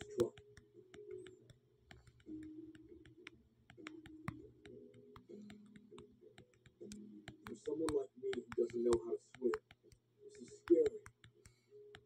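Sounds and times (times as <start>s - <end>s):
faint irregular clicking: 0.0s - 12.0s.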